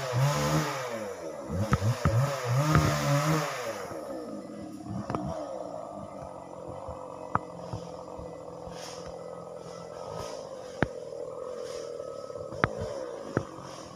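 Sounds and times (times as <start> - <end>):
chainsaw engine idling: 0.0 - 13.9.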